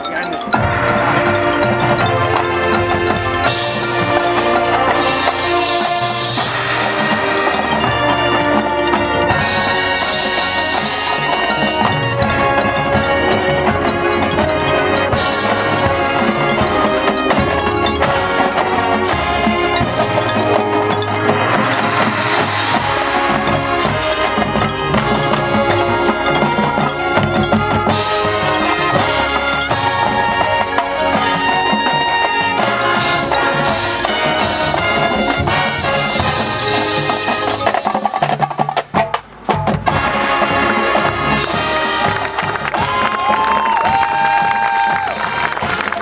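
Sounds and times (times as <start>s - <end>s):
drums: 0.0s - 46.0s
mallet percussion: 0.0s - 46.0s
brass holding sustained chords: 0.6s - 37.8s, 39.9s - 43.3s.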